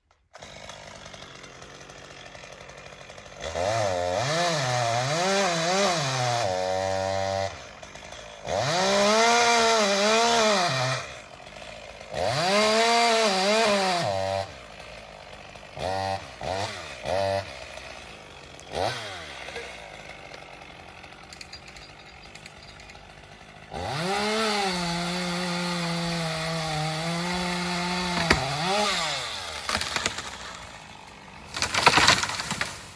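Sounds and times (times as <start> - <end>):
chainsaw cutting wood: 0.0 - 32.9
chainsaw revving and idling: 0.2 - 32.9.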